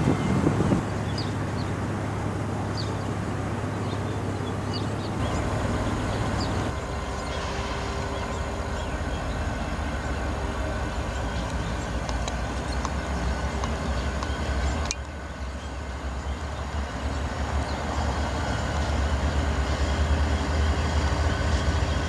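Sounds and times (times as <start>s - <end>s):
diesel locomotives rumbling: 0.0s - 22.0s.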